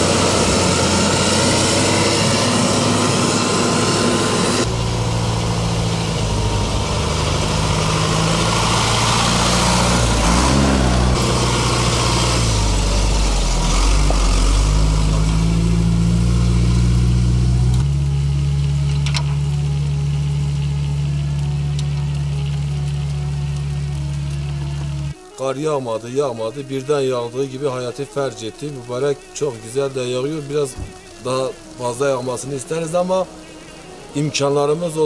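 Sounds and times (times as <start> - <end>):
diesel engines of snow machines: 0.0 - 25.4, 26.2 - 35.0.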